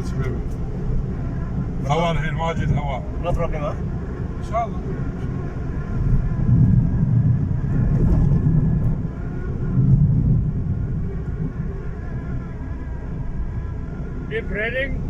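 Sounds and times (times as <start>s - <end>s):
car road noise rumble: 0.0s - 15.0s
strong wind gusts: 0.0s - 15.0s.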